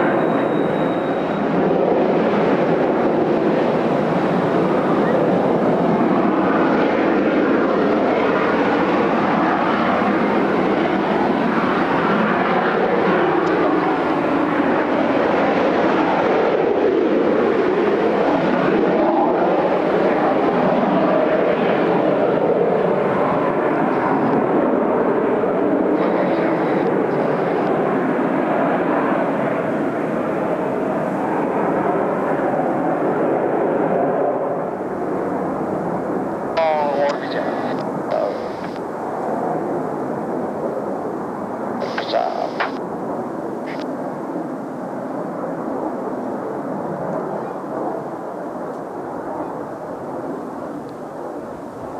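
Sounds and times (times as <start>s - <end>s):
jet engines roaring overhead: 0.0s - 51.9s.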